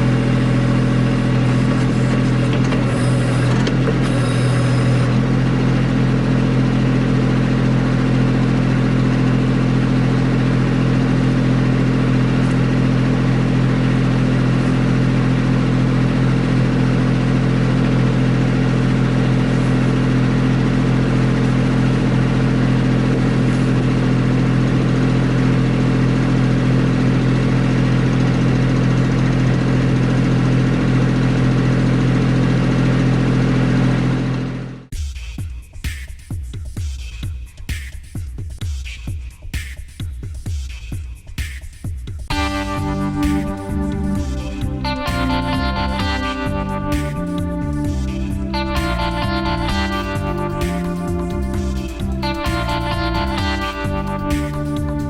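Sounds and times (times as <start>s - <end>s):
tractor diesel engine running: 0.0s - 34.9s, 42.3s - 55.0s.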